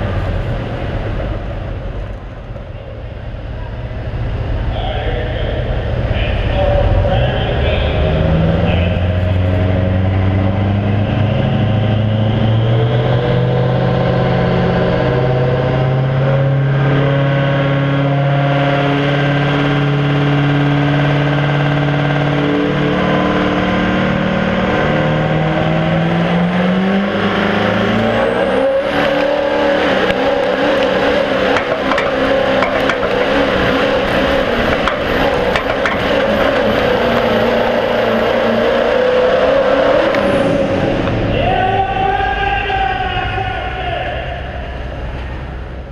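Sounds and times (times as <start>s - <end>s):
diesel truck engine revving: 0.0s - 42.3s, 44.0s - 45.9s.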